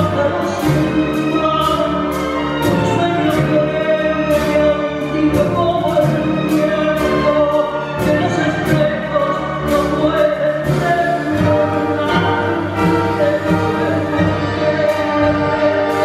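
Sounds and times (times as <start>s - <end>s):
string orchestra: 0.0s - 16.0s
woman singing tango song: 0.0s - 16.0s.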